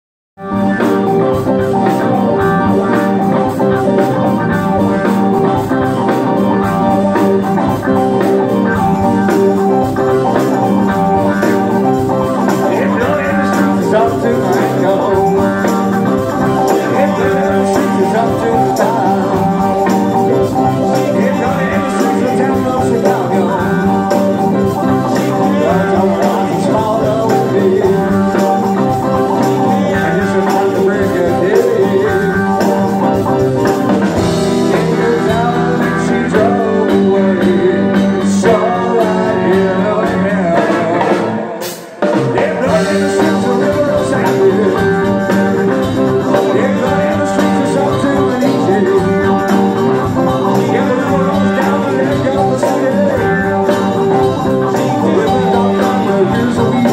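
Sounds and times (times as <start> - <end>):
bass guitar: 0.4 - 56.9
drum kit: 0.4 - 56.9
electric guitar: 0.4 - 56.9
keyboard: 0.4 - 56.9.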